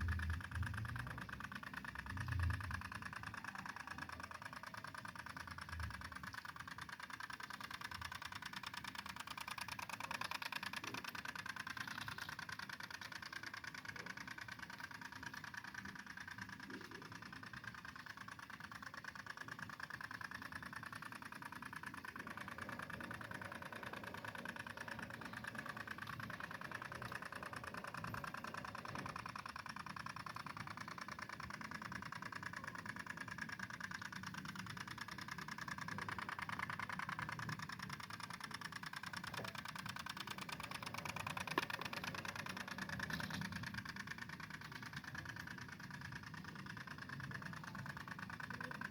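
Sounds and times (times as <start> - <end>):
two-stroke tiller engine running: 0.0 - 48.9.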